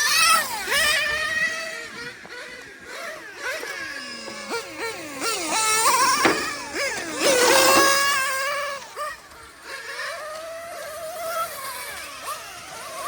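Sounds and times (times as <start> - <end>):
model car engine revving: 0.0 - 13.0.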